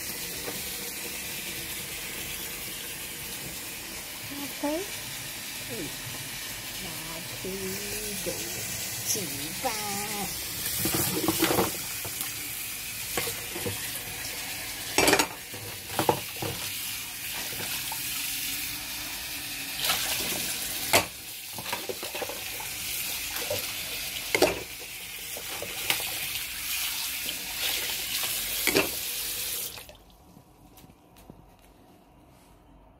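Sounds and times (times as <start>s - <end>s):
tap water running into sink: 0.0s - 4.2s, 4.9s - 30.1s.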